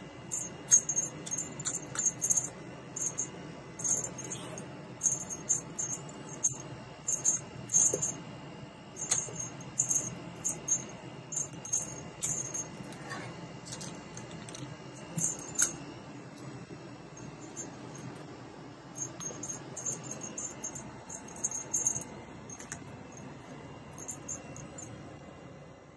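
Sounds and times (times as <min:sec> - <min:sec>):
toy jingling taps and rattles: 0:00.2 - 0:08.2, 0:09.0 - 0:13.0, 0:13.7 - 0:16.5, 0:17.2 - 0:18.3, 0:18.9 - 0:25.0.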